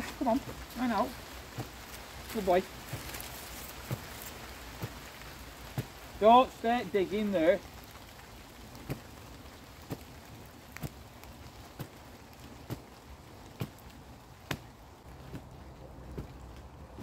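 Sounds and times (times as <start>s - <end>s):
digging stick striking earth: 0.0s - 6.3s, 8.8s - 9.2s, 9.8s - 17.0s
faint steady hiss: 0.0s - 17.0s.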